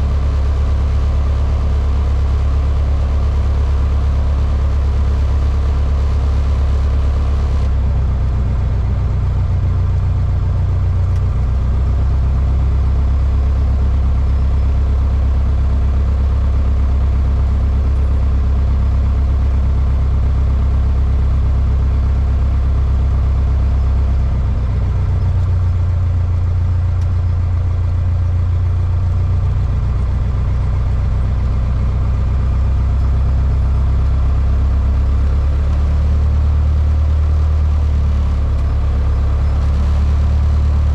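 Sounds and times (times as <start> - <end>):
propeller aircraft engine drone: 0.0 - 40.9.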